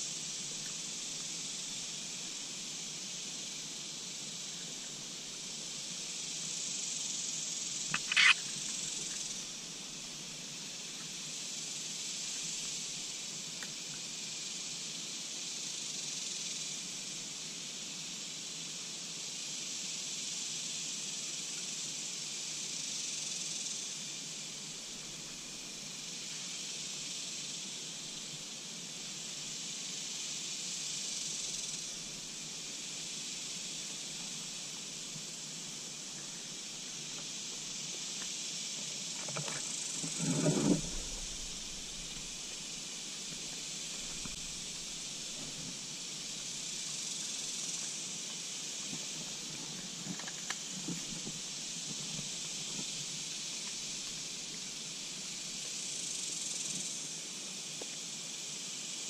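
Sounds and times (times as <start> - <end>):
insect chorus hiss: 0.0 - 59.0.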